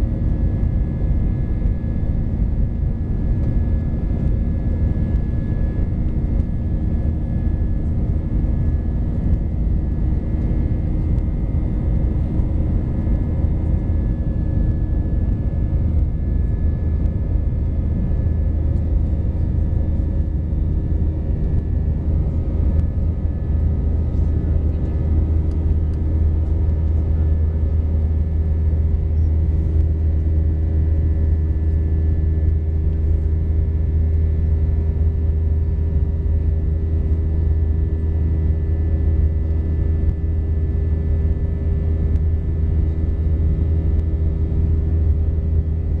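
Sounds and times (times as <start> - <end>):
jet engine rumble: 0.0 - 46.0
steady hum tones: 0.0 - 46.0.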